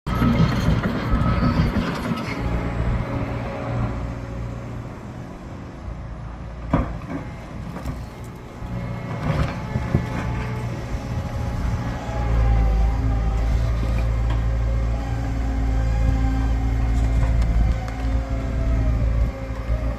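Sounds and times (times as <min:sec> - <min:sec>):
large diesel engine running: 0:00.1 - 0:19.9.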